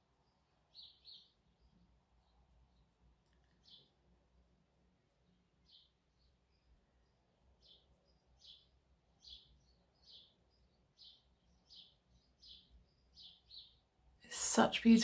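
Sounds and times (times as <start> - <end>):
bird chirping: 0.0 - 4.1, 5.1 - 14.0.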